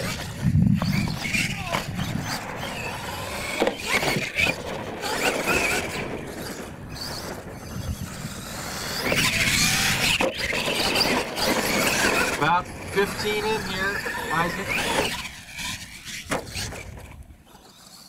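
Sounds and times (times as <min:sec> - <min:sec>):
toy truck motor whining: 0:00.0 - 0:18.0
tyres scrabbling on loose dirt: 0:00.0 - 0:18.0.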